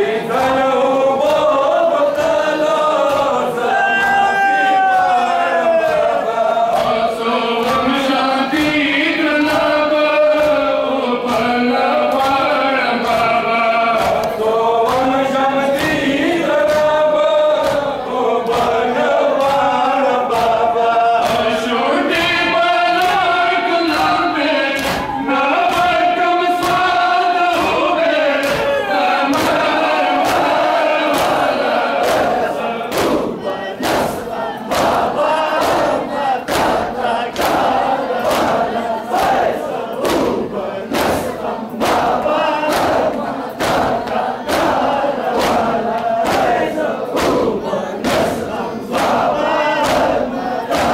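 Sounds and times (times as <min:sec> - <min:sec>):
crowd of men chanting: 0:00.0 - 0:50.9
hands slapping chests: 0:09.5 - 0:22.4, 0:23.0 - 0:50.9.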